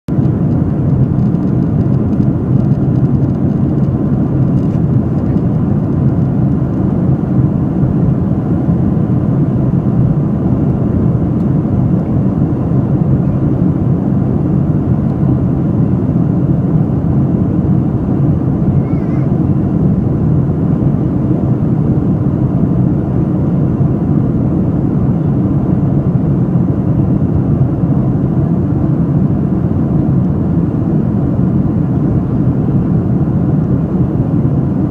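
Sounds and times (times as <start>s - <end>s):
airliner engines rumbling: 0.1s - 34.9s.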